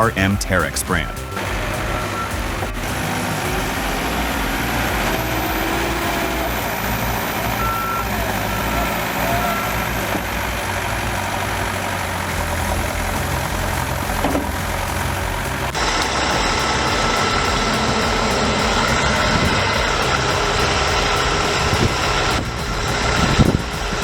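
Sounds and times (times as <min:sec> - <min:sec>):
heavy machine engine running: 0:00.0 - 0:24.0.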